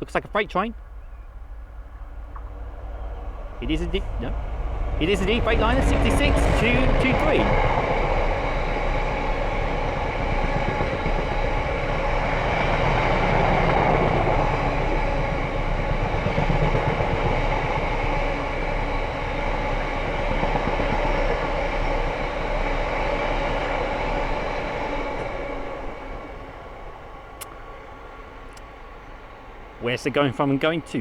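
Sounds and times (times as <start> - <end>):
freight train rumbling on rails: 0.0 - 31.0.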